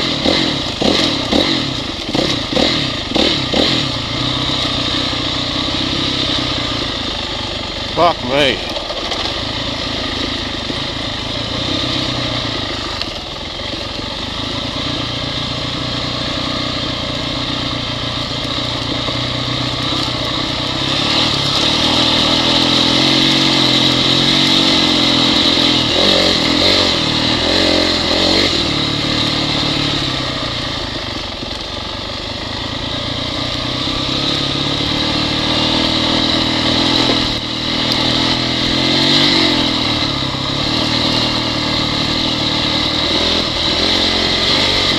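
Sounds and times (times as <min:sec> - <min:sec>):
dirt bike engine revving: 0:00.0 - 0:31.5, 0:32.3 - 0:44.9.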